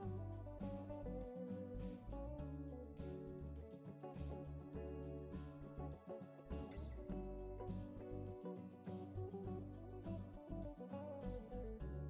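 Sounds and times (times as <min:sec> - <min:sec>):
instrumental guitar music: 0:00.0 - 0:12.0.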